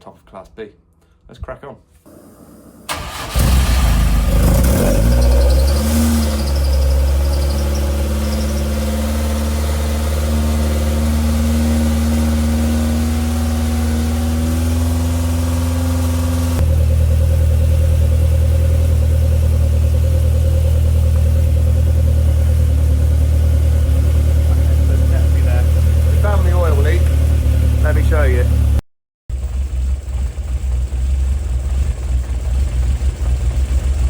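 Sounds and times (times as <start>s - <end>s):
car engine running: 2.1s - 34.0s.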